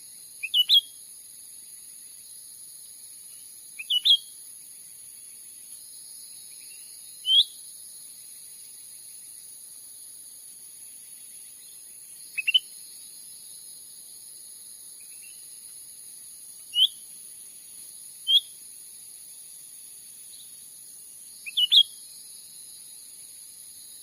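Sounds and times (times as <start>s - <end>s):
high-pitched hiss: 0.0s - 24.0s.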